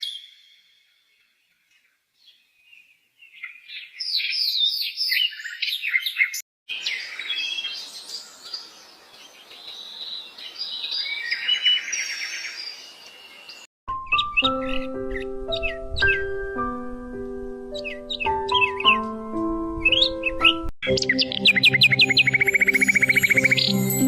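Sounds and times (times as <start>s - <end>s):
songbirds singing: 0.0s - 16.4s, 17.7s - 24.0s.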